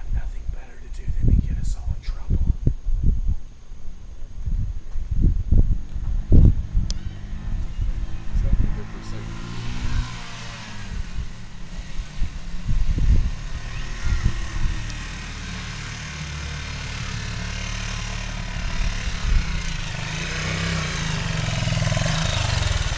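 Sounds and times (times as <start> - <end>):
dirt bike engine running: 1.2 - 22.9.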